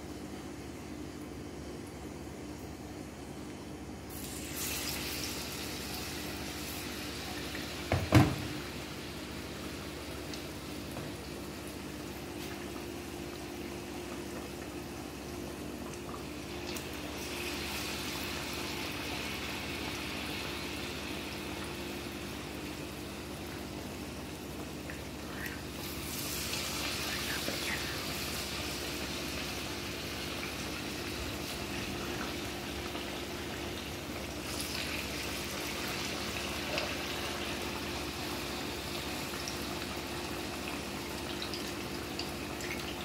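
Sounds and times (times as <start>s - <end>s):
low steady hum: 0.0s - 43.0s
batter sizzling in hot oil: 4.1s - 43.0s.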